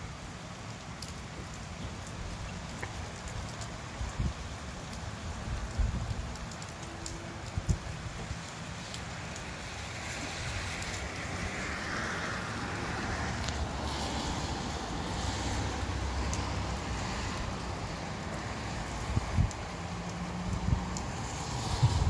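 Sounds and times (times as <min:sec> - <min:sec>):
rain and gusty wind: 0:00.0 - 0:22.0.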